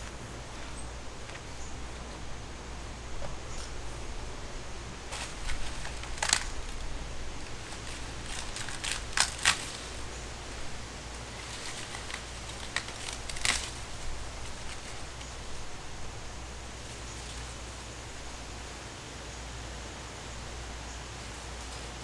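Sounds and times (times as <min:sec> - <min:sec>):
dry corn husks crackling: 0:00.0 - 0:18.6
low steady rumble: 0:00.0 - 0:22.0.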